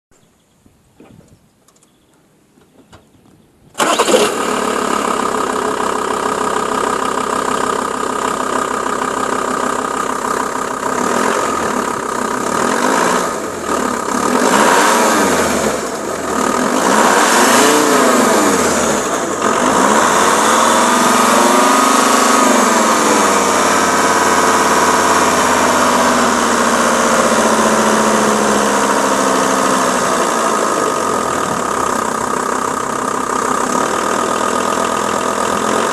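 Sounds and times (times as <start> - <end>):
diesel engine starting: 2.8 - 35.9
diesel engine idling and revving: 3.8 - 35.9.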